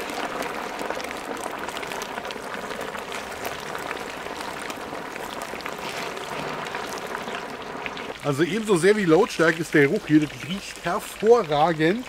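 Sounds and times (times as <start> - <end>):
meat deep-frying in oil: 0.0 - 12.0.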